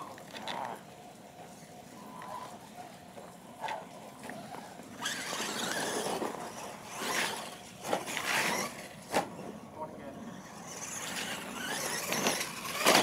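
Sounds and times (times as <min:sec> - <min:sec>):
toy truck motors: 0:00.0 - 0:13.0.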